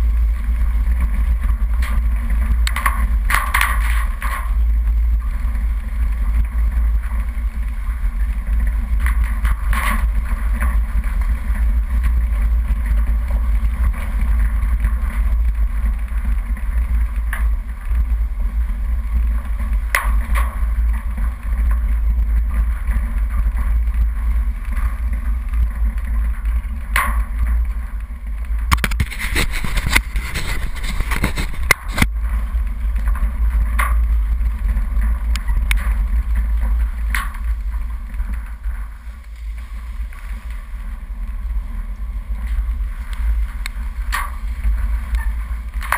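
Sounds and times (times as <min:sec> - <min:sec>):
vehicle engine rumble: 0:00.0 - 0:45.9.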